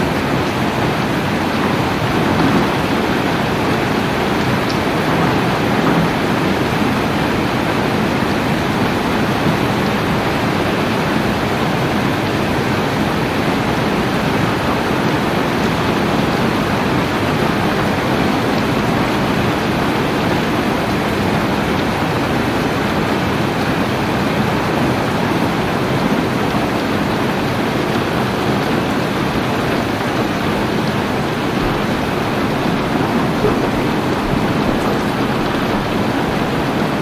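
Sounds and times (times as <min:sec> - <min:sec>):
heavy rain: 0:00.0 - 0:37.0.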